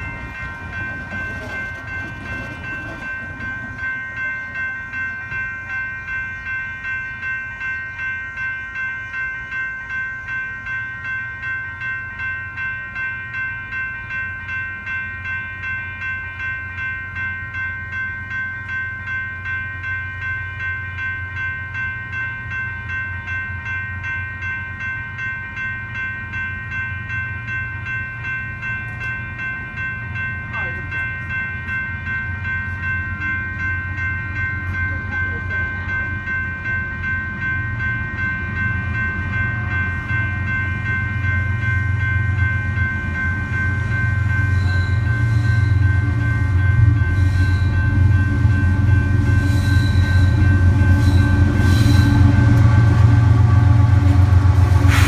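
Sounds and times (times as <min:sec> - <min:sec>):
crossing bell ringing: 0:00.0 - 0:55.0.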